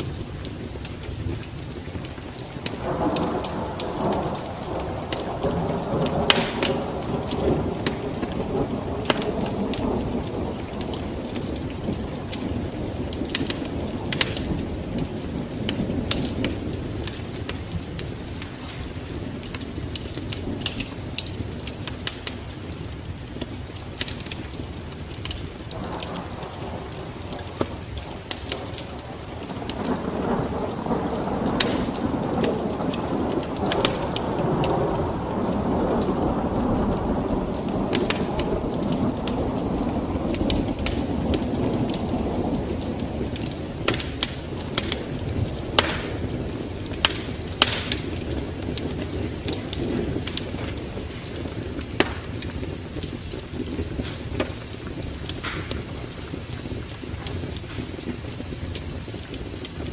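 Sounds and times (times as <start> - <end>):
low rumbles of thunder: 0.0 - 59.9
rain falling: 0.0 - 59.9
sharp pops and crackles: 0.0 - 59.9.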